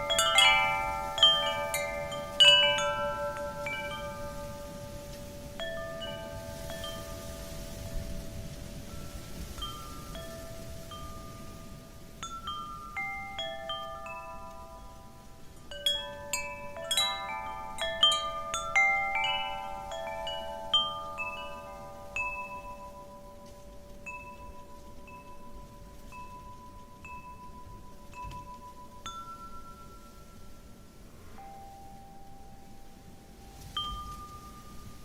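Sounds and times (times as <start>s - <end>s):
soft hiss of wind: 0.0s - 35.0s
wind chimes ringing: 0.0s - 35.0s.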